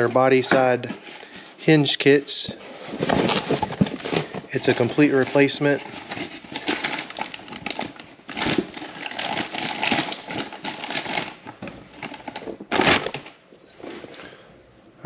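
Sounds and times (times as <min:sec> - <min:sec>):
packaging rustling and crinkling: 0:00.0 - 0:14.3.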